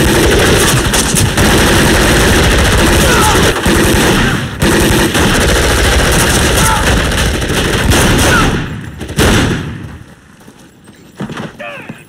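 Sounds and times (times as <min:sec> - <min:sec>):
heavy gunfire: 0:00.0 - 0:10.1.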